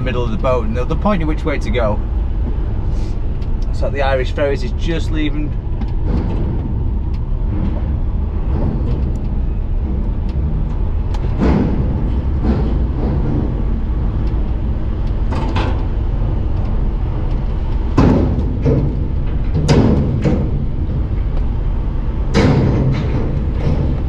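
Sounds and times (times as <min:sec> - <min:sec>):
clunks and knocks: 0:00.0 - 0:24.0
diesel engine running at low speed: 0:00.0 - 0:24.0.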